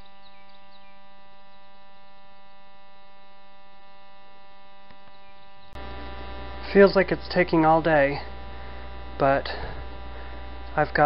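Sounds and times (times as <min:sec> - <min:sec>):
steady electrical buzz: 0:00.0 - 0:11.0.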